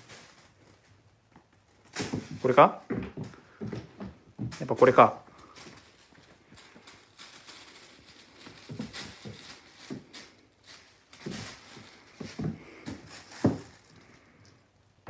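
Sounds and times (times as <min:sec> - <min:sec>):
plastic bags rustling: 0:00.0 - 0:15.0
kitten thumps and paw patter: 0:00.1 - 0:05.0, 0:06.6 - 0:14.0.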